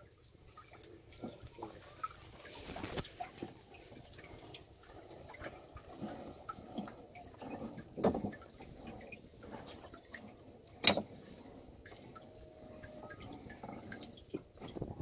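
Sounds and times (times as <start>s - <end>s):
water dripping and splashing: 0.0s - 15.0s.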